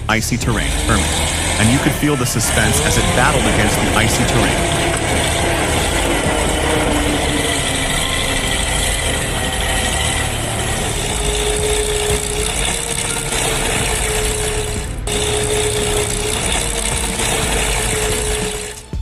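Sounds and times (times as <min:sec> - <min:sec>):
heavy machine engine running: 0:00.0 - 0:19.0
steady whine: 0:00.0 - 0:19.0.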